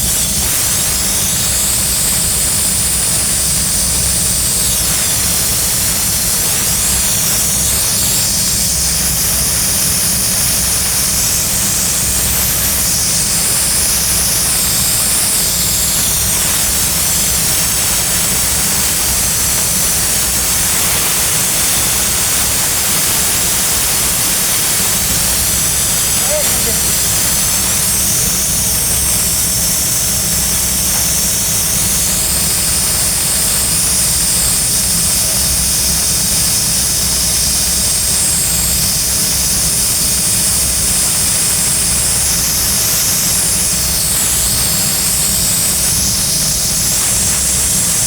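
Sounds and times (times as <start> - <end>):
torch flame hissing: 0.0 - 48.0.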